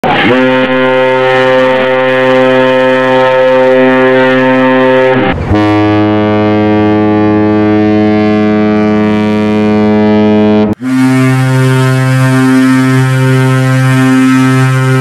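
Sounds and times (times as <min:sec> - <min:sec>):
deep ship horns: 0:00.0 - 0:15.0.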